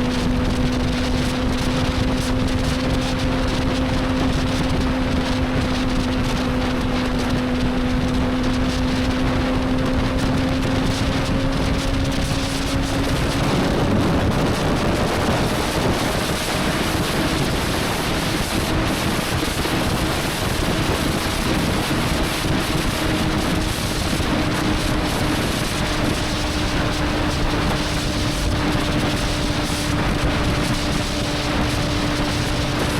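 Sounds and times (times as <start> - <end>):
heavy wind noise: 0.0 - 32.9
motorcycle engine cruising: 0.0 - 32.9.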